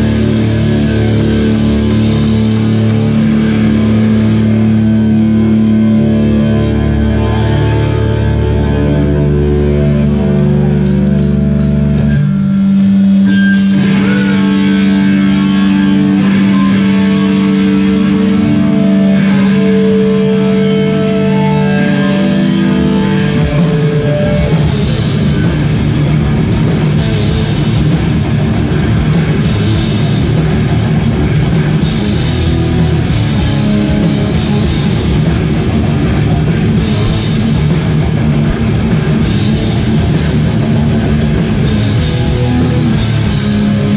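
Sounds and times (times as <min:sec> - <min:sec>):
hardcore band playing live: 0:00.0 - 0:43.9
held guitar notes: 0:00.0 - 0:43.9.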